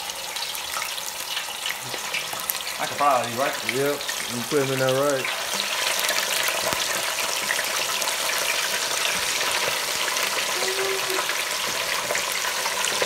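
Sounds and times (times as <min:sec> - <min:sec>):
food sizzling in deep fryer: 0:00.0 - 0:13.0.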